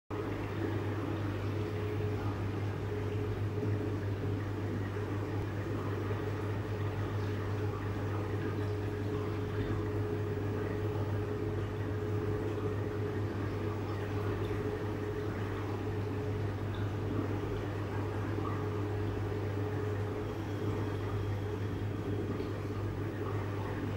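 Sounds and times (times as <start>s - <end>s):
aquarium pumps humming: 0.1s - 23.9s
circulating water: 0.1s - 23.9s.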